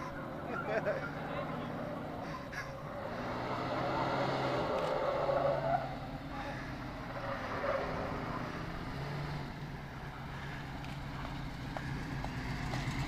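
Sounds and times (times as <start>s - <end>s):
car engines running hard: 0.0s - 13.0s.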